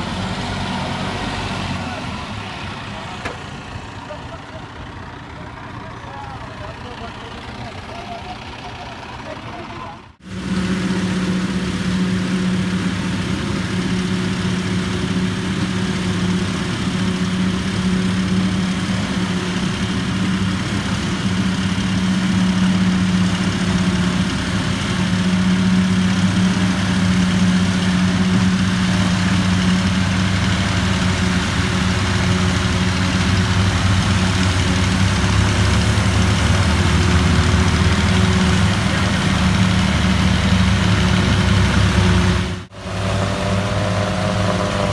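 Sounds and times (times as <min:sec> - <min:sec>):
tractor engines droning: 0:00.0 - 0:44.9.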